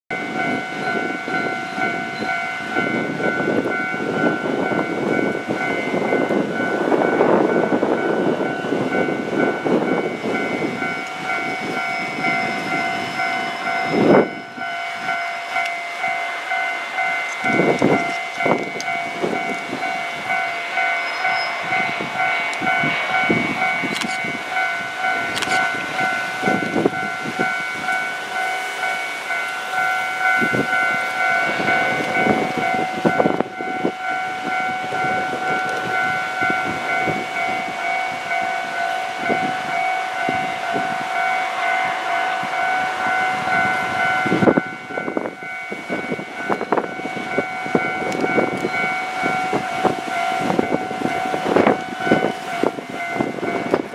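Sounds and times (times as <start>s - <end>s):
electric train rumbling: 0.1s - 53.9s
level crossing bell ringing: 0.1s - 53.9s.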